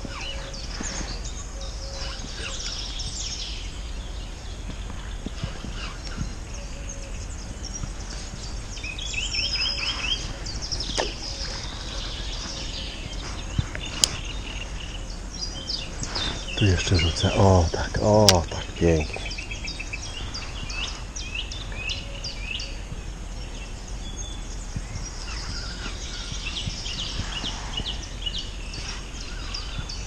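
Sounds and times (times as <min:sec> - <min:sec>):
low background rumble: 0:00.0 - 0:30.0
songbirds singing: 0:00.0 - 0:30.0.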